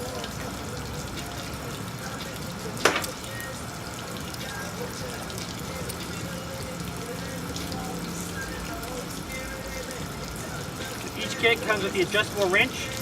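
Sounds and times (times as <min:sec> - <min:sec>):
water dripping: 0:00.0 - 0:13.0
water spattering from leaking pipe: 0:00.0 - 0:13.0.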